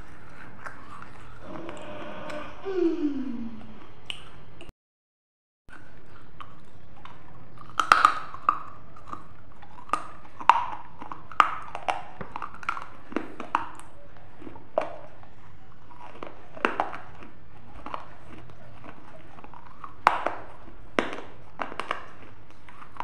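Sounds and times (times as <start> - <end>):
clay being bitten and chewed: 0.0 - 1.4, 5.7 - 23.0.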